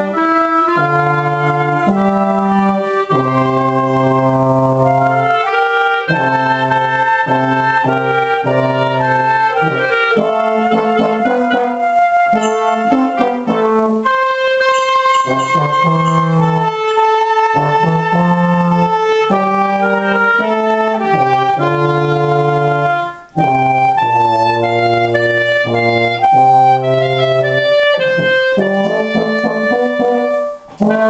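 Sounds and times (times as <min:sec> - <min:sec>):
wind ensemble playing: 0:00.0 - 0:31.0.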